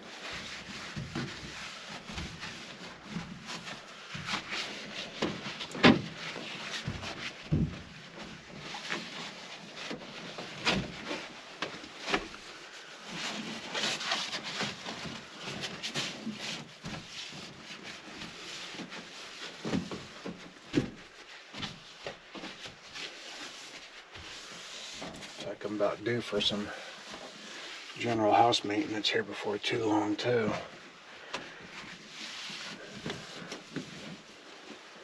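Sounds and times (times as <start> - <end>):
rubbing and wiping on van door: 0.0 - 28.4, 30.7 - 35.0.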